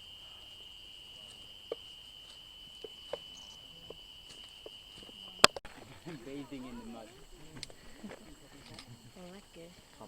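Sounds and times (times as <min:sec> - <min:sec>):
insect high-pitched trill: 0:00.0 - 0:10.0.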